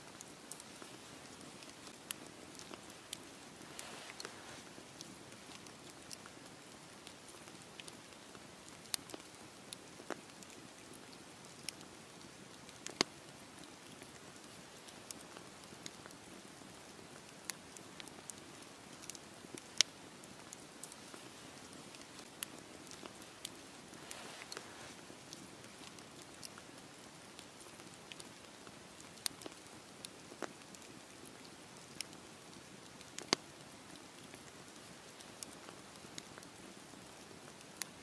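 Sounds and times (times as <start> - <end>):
campfire hissing: 0.0 - 38.0
fire crackles and pops: 0.0 - 38.0.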